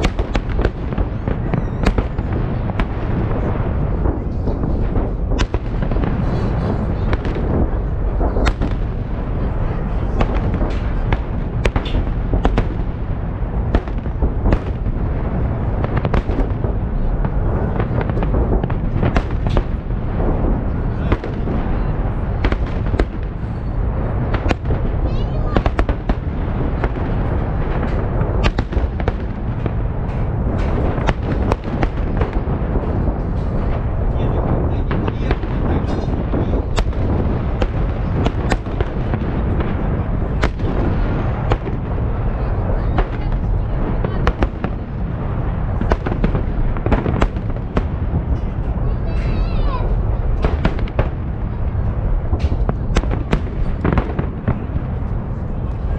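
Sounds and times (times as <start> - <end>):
firework shells bursting: 0.0 - 44.8
sharp cracking bangs: 0.0 - 55.1
distant firework volleys rumbling: 0.0 - 55.9.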